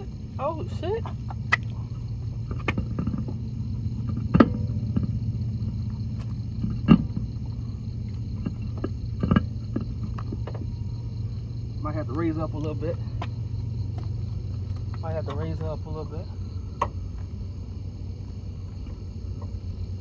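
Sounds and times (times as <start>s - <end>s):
wheel clanking against car hub: 0.0s - 17.4s
steady low hum: 0.0s - 20.0s.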